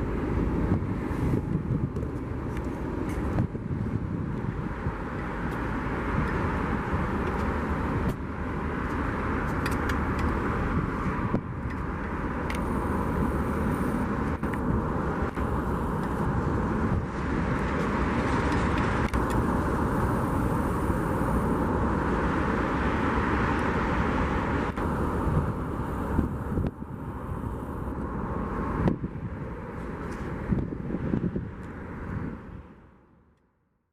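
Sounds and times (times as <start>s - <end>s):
wind rumble: 0.0s - 33.4s
passing traffic: 0.0s - 33.9s.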